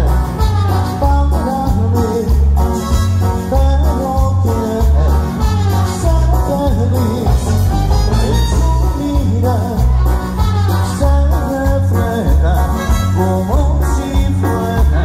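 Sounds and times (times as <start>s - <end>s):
heavy pulsing bass: 0.0s - 15.0s
latin band playing: 0.0s - 15.0s
person singing: 0.0s - 15.0s.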